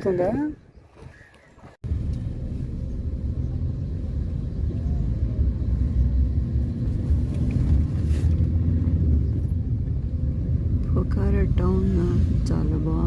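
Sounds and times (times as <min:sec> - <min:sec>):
car road and engine rumble: 0:01.8 - 0:13.0.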